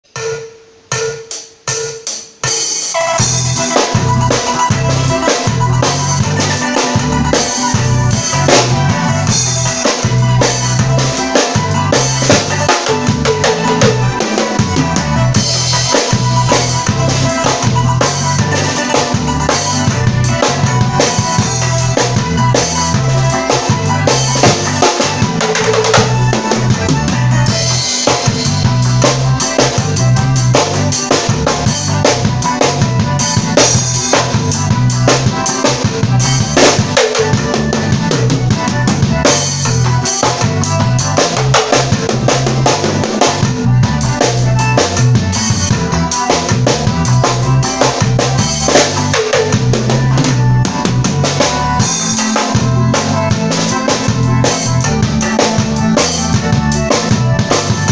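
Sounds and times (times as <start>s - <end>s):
drum kit groove: 0.0s - 57.9s.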